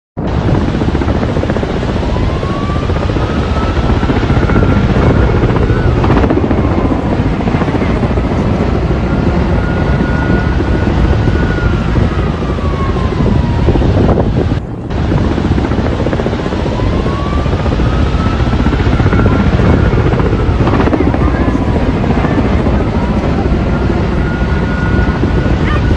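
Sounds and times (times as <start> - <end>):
helicopter rotor chop: 0.2 - 25.9.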